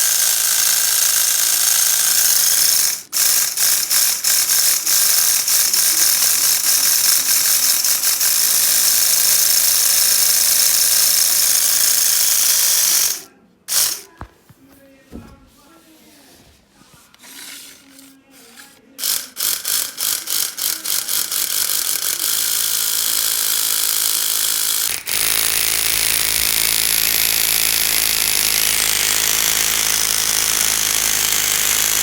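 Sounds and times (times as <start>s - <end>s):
toy model engine rattling: 0.0s - 14.1s, 17.2s - 32.0s.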